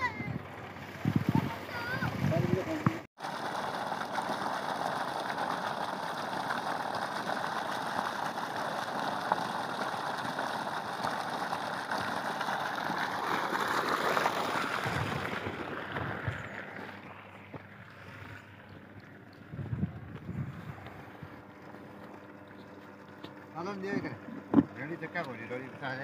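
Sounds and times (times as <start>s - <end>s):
water gushing from pipe onto ground: 0.7s - 26.0s.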